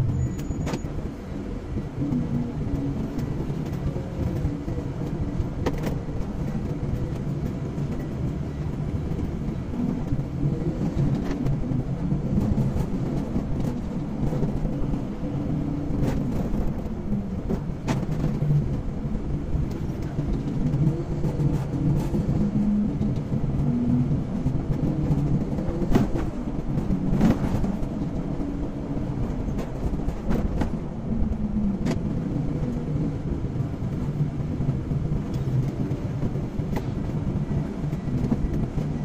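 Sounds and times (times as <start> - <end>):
car engine and tyre rumble: 0.0 - 39.0.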